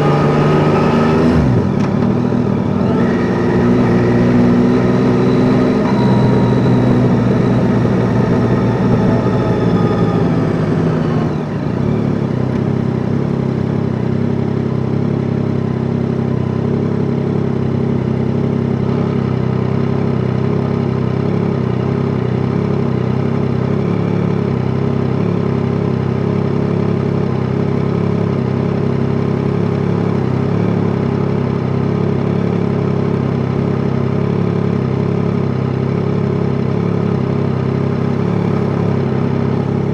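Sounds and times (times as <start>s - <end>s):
motorcycle engine idling: 1.4s - 39.9s.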